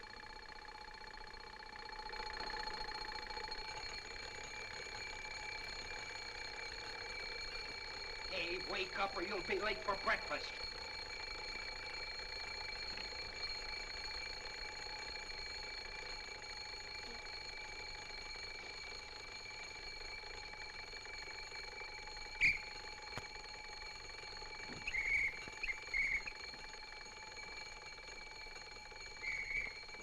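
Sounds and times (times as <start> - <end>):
alarm clock bell ringing: 0.0 - 30.0.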